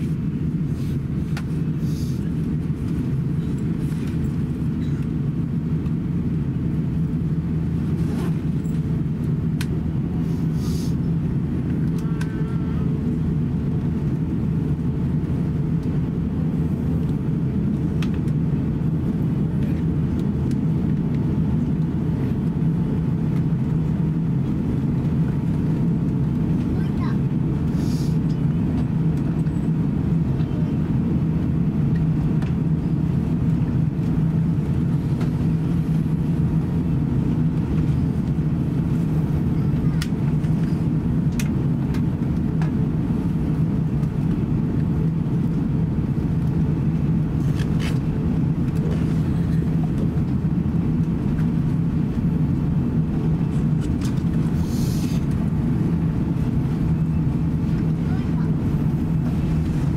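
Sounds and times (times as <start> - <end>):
aircraft cabin low rumble: 0.0 - 59.9.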